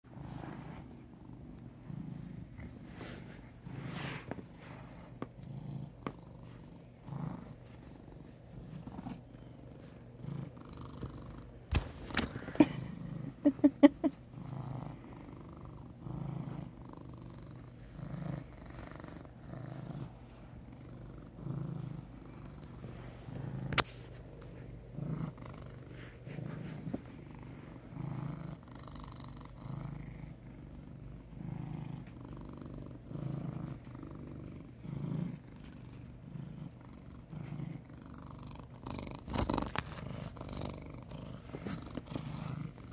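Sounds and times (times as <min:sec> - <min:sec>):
cat purring: 0:00.0 - 0:42.9.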